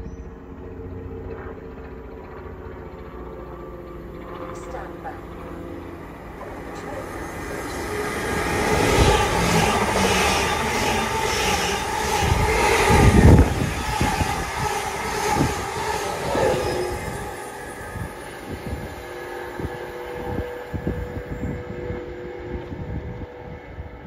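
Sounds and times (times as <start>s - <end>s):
train rumble passing: 0.3s - 24.0s.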